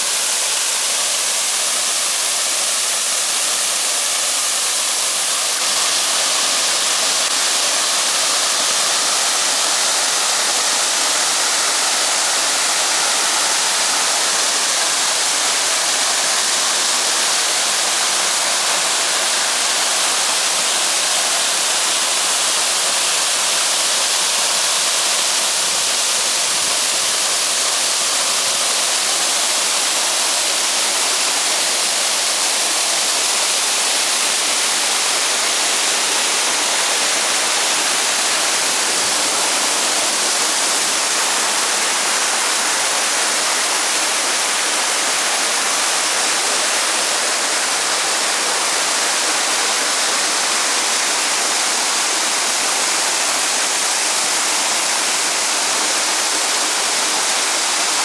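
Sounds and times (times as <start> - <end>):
waterfall pouring: 0.0 - 58.0.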